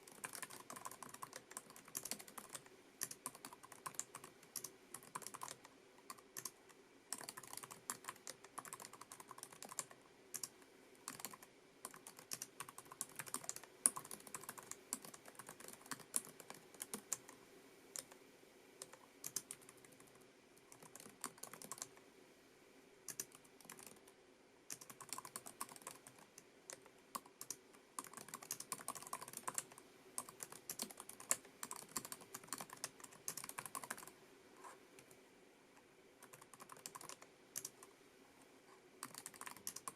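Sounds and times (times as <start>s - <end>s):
faint steady hum: 0.0s - 39.9s
keyboard typing clicks: 0.1s - 17.3s, 18.8s - 20.1s, 20.7s - 21.9s, 23.1s - 24.1s, 24.7s - 34.1s, 36.2s - 37.9s, 39.0s - 39.9s.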